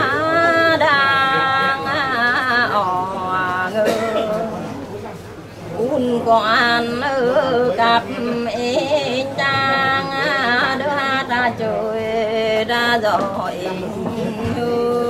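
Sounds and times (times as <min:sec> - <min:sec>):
woman singing unaccompanied: 0:00.0 - 0:04.8, 0:05.7 - 0:15.0.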